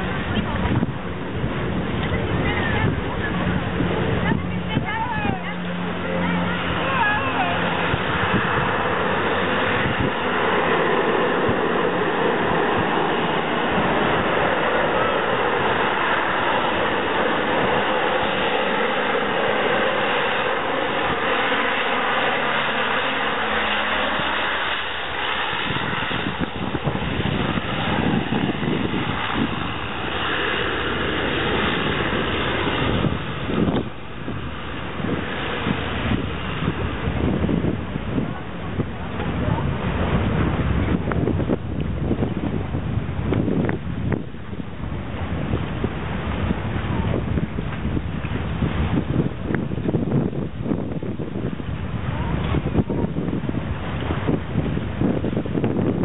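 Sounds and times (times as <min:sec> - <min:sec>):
turboprop aircraft droning overhead: 0:00.0 - 0:56.0
wind buffeting microphone: 0:00.0 - 0:56.0.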